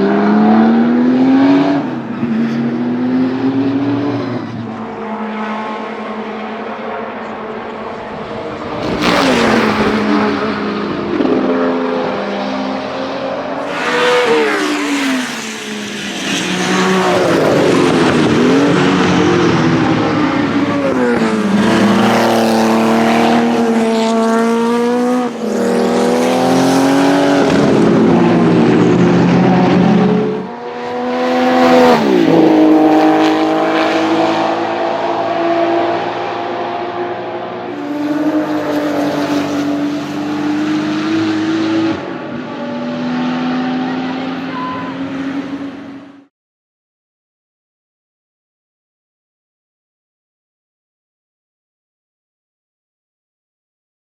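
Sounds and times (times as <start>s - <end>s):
racing engine revving through gears: 0.0s - 6.4s, 7.2s - 46.1s.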